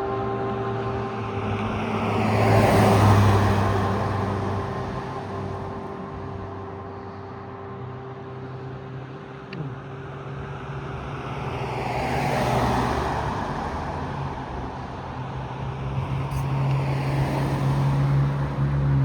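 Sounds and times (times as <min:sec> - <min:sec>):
road vehicle passing by: 0:00.0 - 0:08.8, 0:09.6 - 0:19.0.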